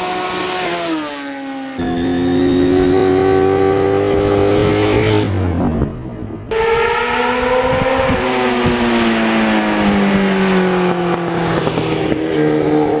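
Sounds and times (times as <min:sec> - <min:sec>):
motorcycle engine approaching: 0:00.0 - 0:13.0.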